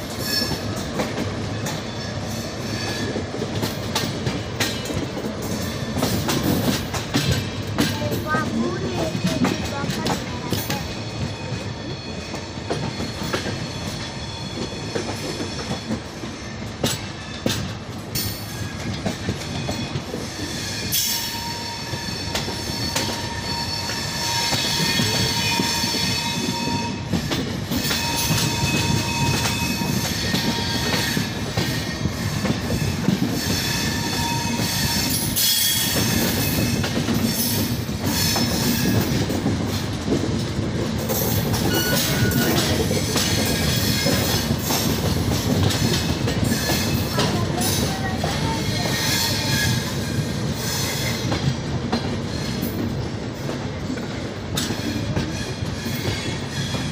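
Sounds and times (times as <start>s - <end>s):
train wheels knocking over rail joints: 0.0s - 56.9s.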